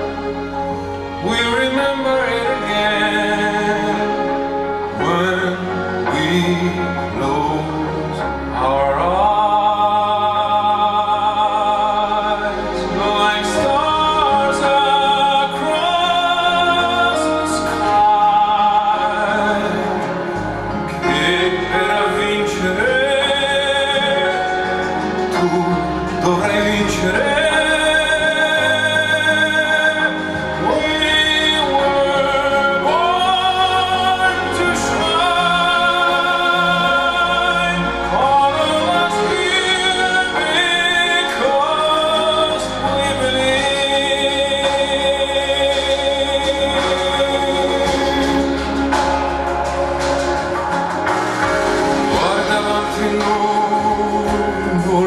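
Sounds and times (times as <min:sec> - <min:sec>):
song over loudspeakers: 0:00.0 - 0:55.0.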